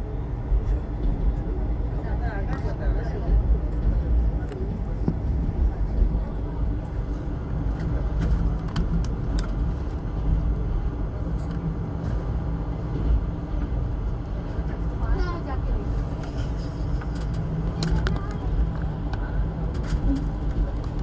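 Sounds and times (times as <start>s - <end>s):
train coach rumbling: 0.0s - 21.0s.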